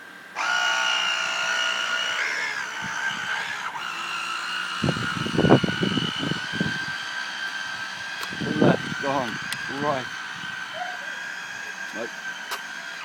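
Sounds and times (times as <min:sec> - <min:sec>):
toy boat motor whining: 0:00.0 - 0:13.0.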